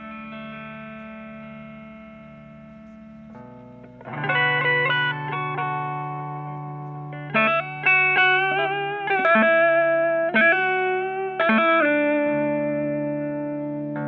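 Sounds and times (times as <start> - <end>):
background music melody: 0.0 - 14.0.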